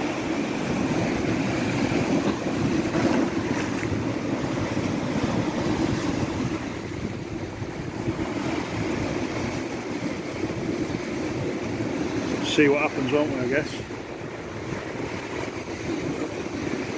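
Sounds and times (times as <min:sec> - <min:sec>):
sea waves breaking over rocks: 0:00.0 - 0:16.9.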